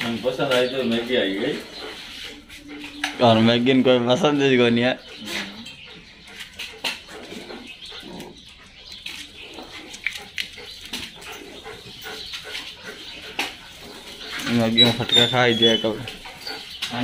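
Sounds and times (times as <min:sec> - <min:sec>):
dogs panting and snuffling: 0:00.0 - 0:17.0.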